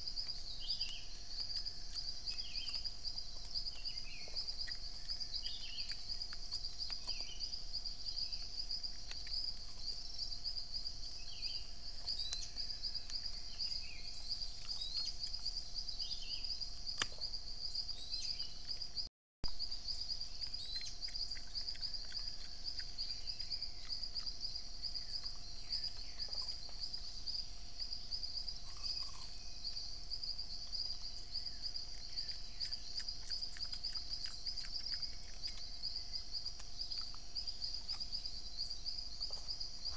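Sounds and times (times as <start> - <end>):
faint low hum: 0.0 - 39.9
high-pitched insect chorus: 0.0 - 39.9.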